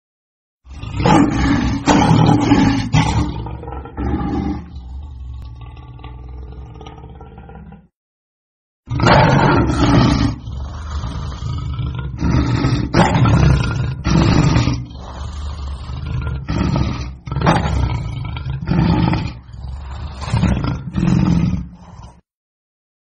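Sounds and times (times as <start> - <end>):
lion roaring: 0.7 - 7.9, 8.9 - 22.3.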